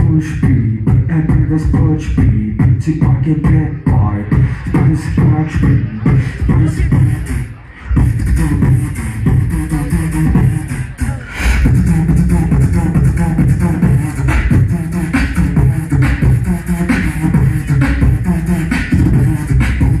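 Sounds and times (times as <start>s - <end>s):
amplified beatboxing: 0.0s - 20.0s.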